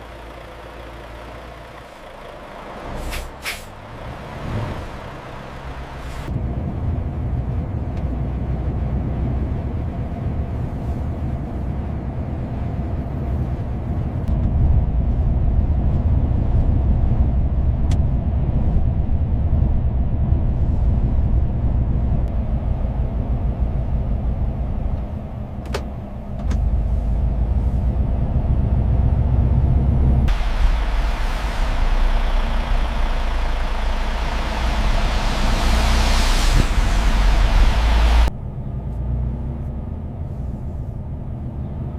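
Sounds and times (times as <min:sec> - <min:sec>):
truck engine and road noise: 0:00.0 - 0:41.9.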